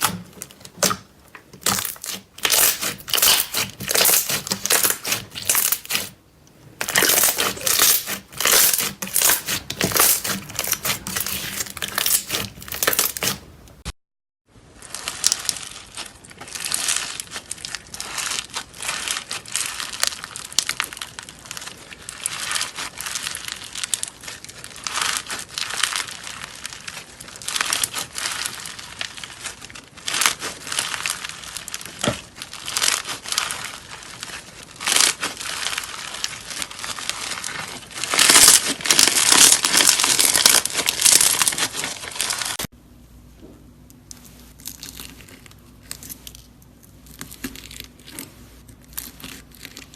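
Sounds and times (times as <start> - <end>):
slime crackling when squeezed: 0.0 - 6.2, 6.8 - 13.4, 14.8 - 42.7.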